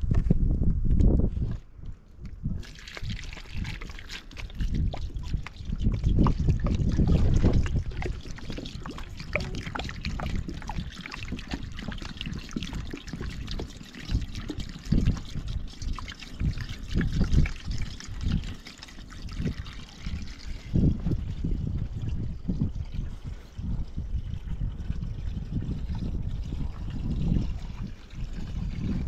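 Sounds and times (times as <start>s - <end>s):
water trickling and splashing: 2.2s - 29.0s.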